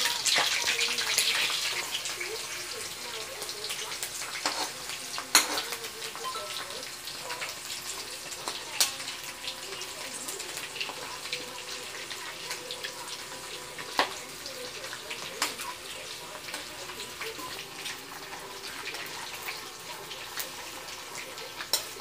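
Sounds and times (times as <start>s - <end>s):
shrimp sizzling in oil: 0.0s - 22.0s.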